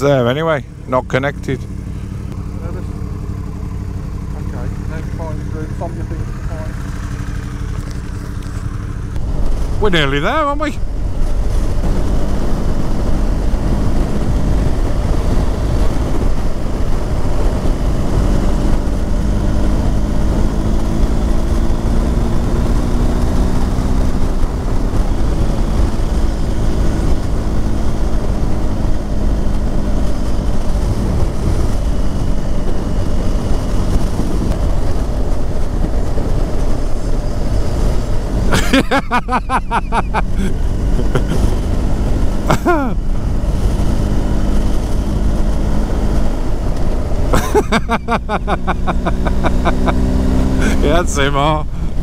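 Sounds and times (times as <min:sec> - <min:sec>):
motorcycle engine drone: 0:00.0 - 0:52.0
wind rush on microphone: 0:06.5 - 0:39.2, 0:39.8 - 0:51.0.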